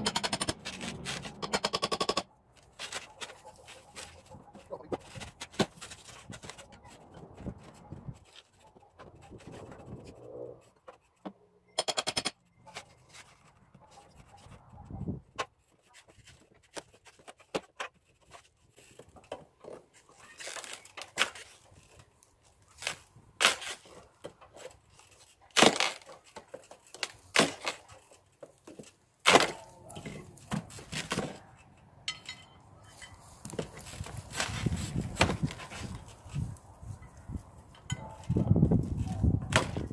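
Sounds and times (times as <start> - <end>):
tools scraping and prying wood: 0.0 - 39.9.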